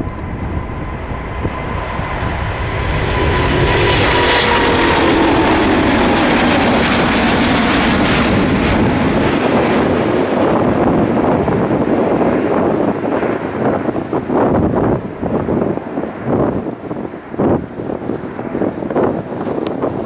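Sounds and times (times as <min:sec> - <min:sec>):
jet engines at takeoff power: 0:00.0 - 0:20.0.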